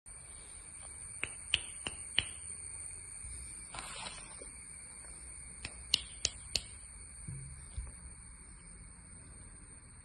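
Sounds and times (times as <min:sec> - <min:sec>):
faint high-pitched whine: 0:00.1 - 0:10.0.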